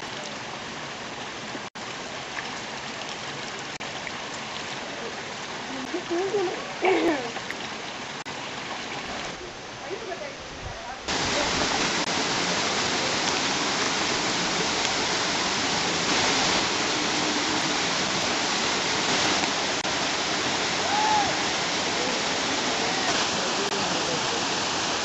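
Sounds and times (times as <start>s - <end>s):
waterfall rushing: 0.0s - 10.4s, 11.0s - 25.0s.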